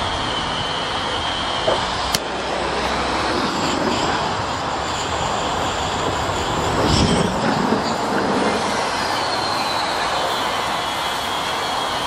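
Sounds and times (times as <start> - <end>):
firework rocket motor hissing: 0.0 - 12.0.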